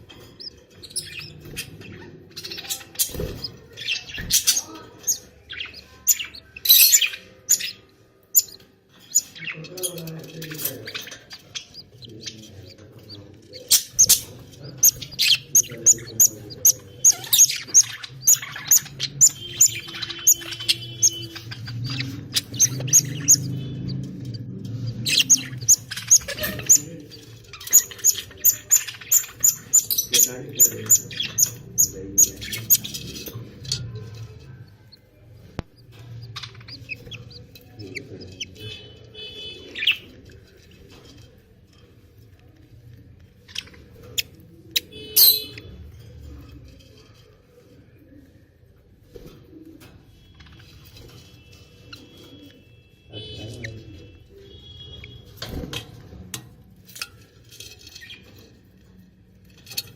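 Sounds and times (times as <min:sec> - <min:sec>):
budgies chirping: 0:00.0 - 0:59.9.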